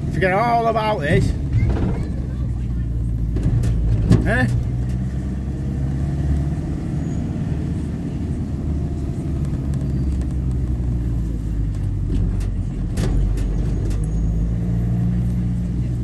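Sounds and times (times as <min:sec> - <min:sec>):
car engine hum and tyre rumble: 0:00.0 - 0:16.0.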